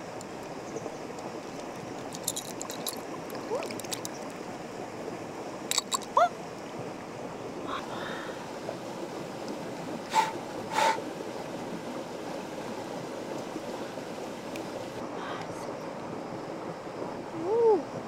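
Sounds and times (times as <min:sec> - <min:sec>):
river water running over stones: 0:00.0 - 0:18.0.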